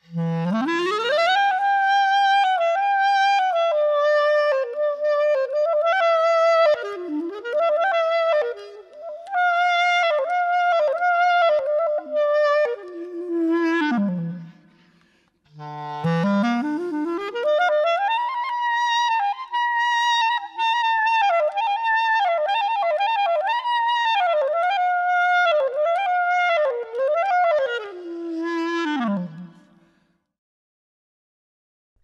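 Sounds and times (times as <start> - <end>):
solo wind instrument melody: 0.0 - 14.8, 15.5 - 29.8.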